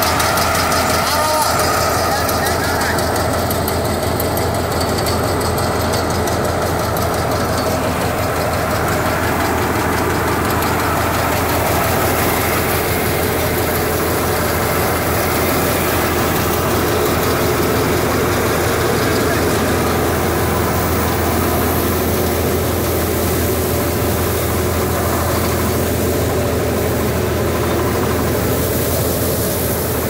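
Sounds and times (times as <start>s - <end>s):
diesel engine hum: 0.0s - 30.0s
thresher mechanical drone: 0.0s - 30.0s.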